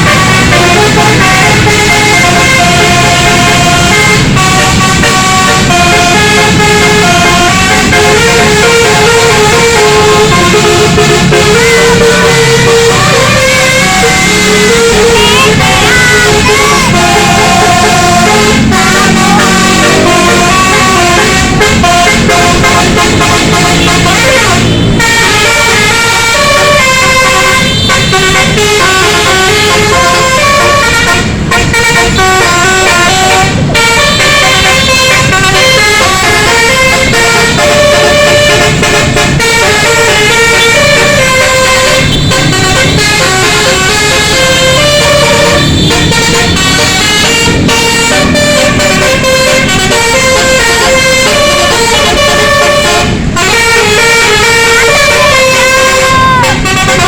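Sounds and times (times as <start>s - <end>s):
multi-tone bus horn melody: 0.0s - 57.0s.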